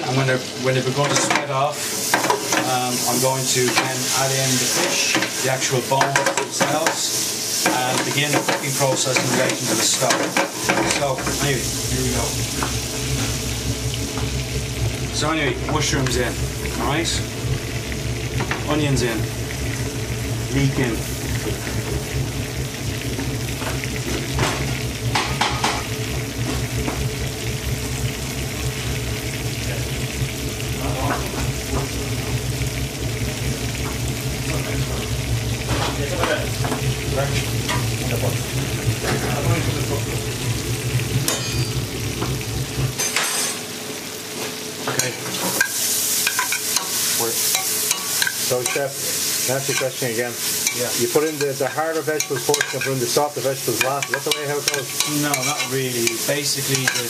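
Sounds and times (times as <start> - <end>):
vegetables sizzling in butter: 0.0 - 57.0
low background hum: 0.4 - 57.0.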